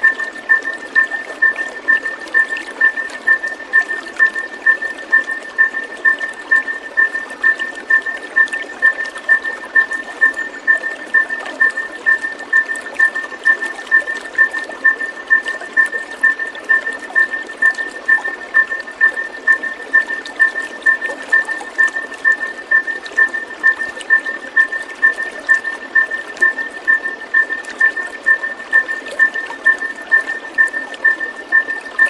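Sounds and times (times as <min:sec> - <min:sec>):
rushing water noise: 0:00.0 - 0:32.0.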